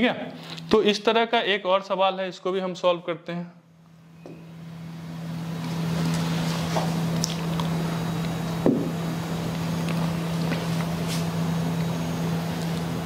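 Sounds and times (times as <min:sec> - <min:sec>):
low hum with whirring: 0:00.0 - 0:13.0.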